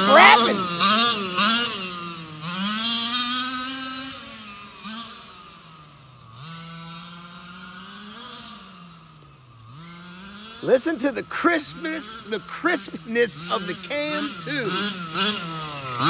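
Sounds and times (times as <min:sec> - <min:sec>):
small gasoline engine revving: 0:00.0 - 0:16.0.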